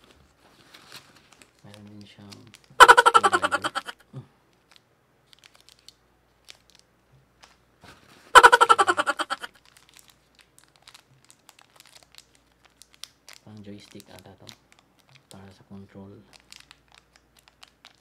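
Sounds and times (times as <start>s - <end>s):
plastic packet crinkling: 0.0s - 3.9s, 4.5s - 7.6s, 9.3s - 18.0s.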